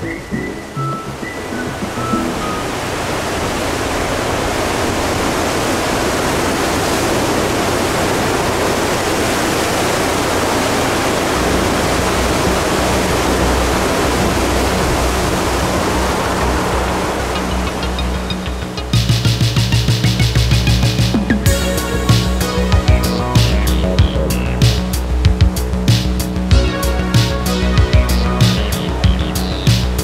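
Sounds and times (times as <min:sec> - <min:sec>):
waves breaking: 0:00.0 - 0:30.0.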